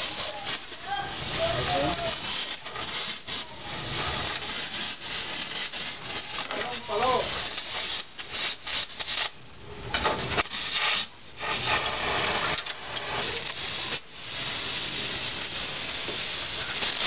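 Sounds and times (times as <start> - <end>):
arc welding crackling hiss: 0.0 - 17.0.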